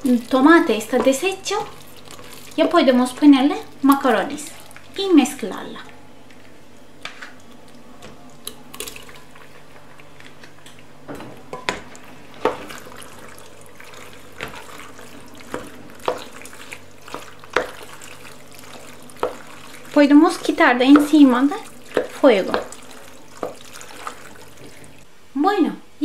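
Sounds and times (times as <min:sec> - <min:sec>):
wet squishing of pasta and sauce: 0:00.0 - 0:10.9, 0:11.8 - 0:25.1.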